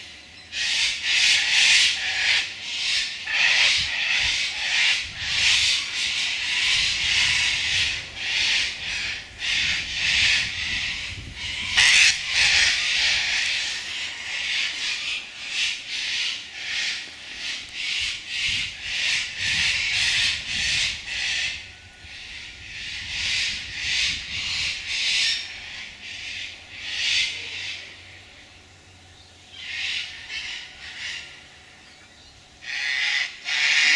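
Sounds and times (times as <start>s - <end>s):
cockatoos screeching: 0.6s - 28.2s, 32.6s - 33.9s.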